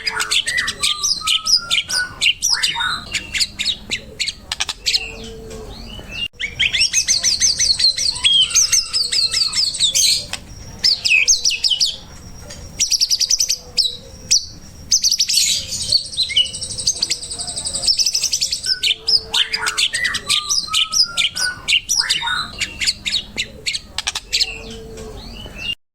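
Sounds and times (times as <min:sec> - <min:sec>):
songbird trilling: 0:00.0 - 0:25.8.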